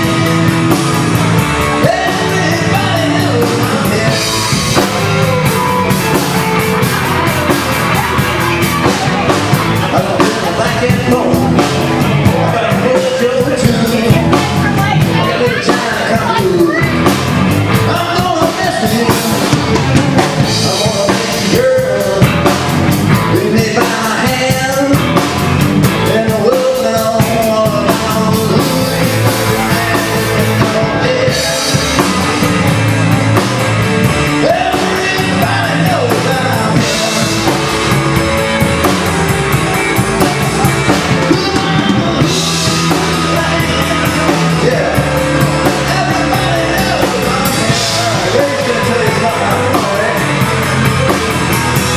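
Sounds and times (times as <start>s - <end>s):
bass guitar: 0.0s - 51.9s
drum kit: 0.0s - 51.9s
electric guitar: 0.0s - 51.9s
person singing: 0.0s - 51.9s.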